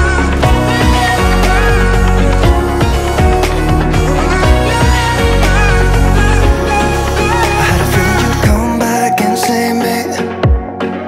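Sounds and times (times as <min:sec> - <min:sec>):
pop r and b song with drums: 0:00.0 - 0:11.0.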